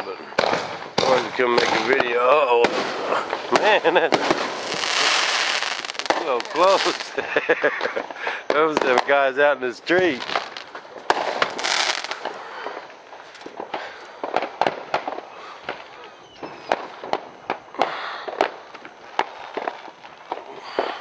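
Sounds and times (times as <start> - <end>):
dense crackling burst: 0.0 - 21.0
firecrackers banging and popping: 0.0 - 21.0.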